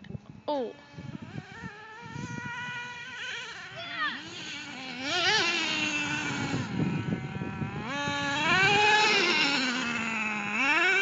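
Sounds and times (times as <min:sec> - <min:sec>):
toy truck motor revving: 0:00.6 - 0:11.0.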